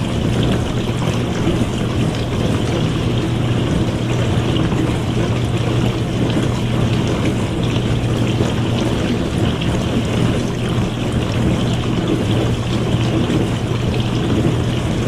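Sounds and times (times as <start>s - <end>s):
dishwasher motor hum: 0.0s - 15.0s
water spraying and sloshing: 0.0s - 15.0s.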